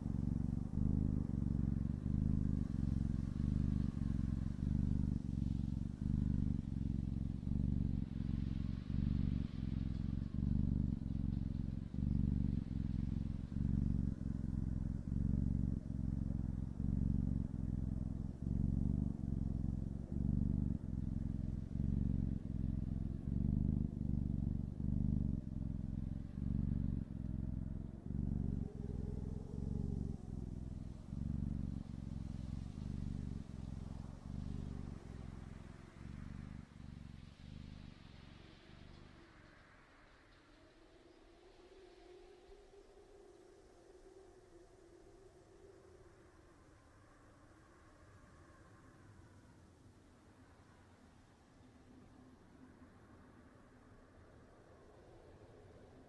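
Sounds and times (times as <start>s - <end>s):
kitten purring: 0.0s - 56.0s.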